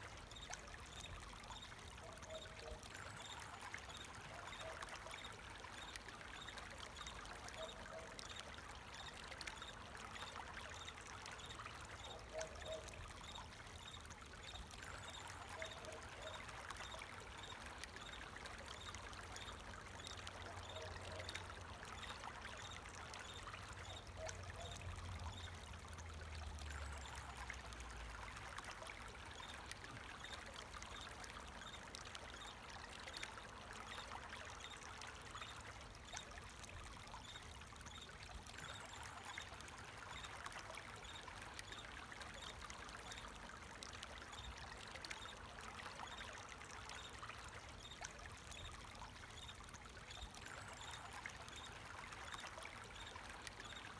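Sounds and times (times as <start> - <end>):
water trickling: 0.0 - 53.9.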